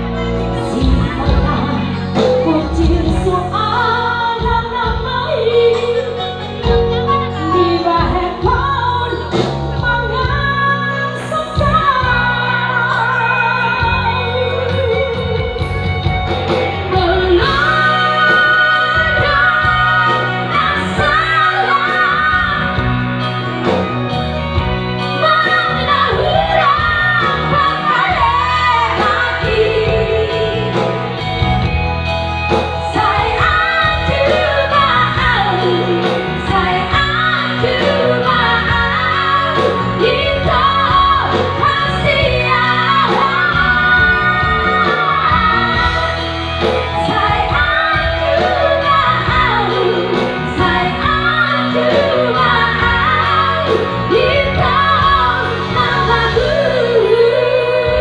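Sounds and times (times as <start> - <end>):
band accompaniment: 0.0 - 58.0
women singing pop melody: 0.0 - 58.0.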